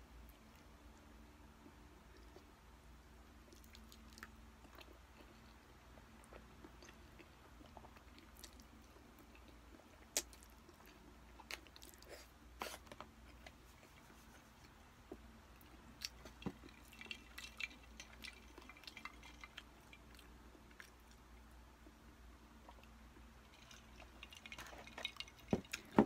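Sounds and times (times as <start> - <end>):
chewing and wet mouth sounds: 0.2 - 26.0.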